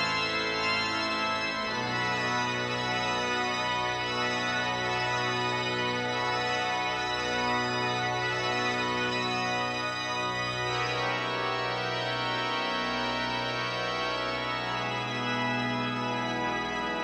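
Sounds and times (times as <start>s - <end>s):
organ sustained chords: 0.0s - 17.0s.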